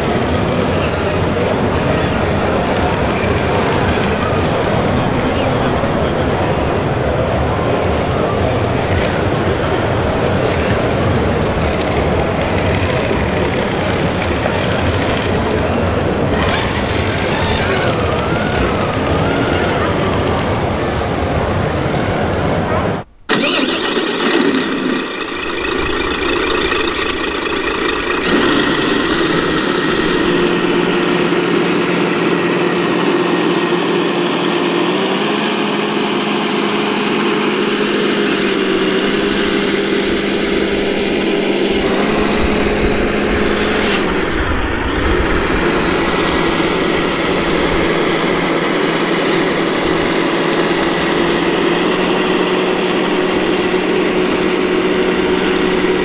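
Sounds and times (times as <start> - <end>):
simulated diesel truck engine: 0.0 - 56.0.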